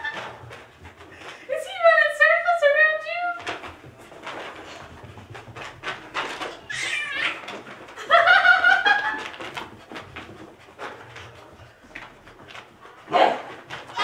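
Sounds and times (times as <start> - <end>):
soft scuffling: 0.0 - 14.0.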